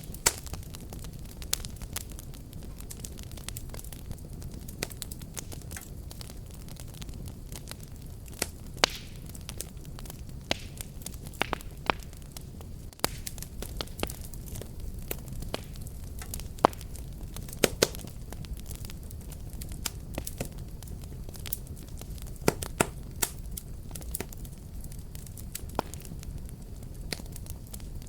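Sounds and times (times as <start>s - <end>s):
fire crackling and popping: 0.0s - 28.0s
low fire rumble: 0.0s - 28.0s.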